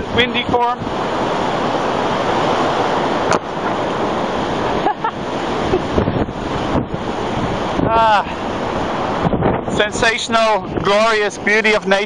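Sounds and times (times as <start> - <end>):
strong wind on microphone: 0.0 - 12.0.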